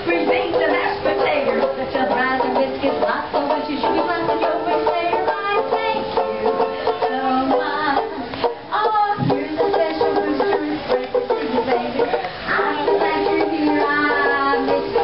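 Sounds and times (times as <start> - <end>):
stringed instrument country tune: 0.0 - 15.0.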